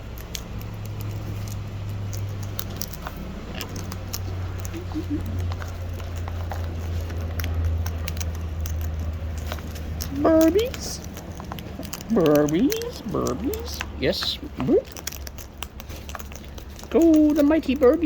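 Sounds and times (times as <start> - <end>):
parrots cracking seed: 0.0 - 18.0
steady low hum: 0.0 - 18.0.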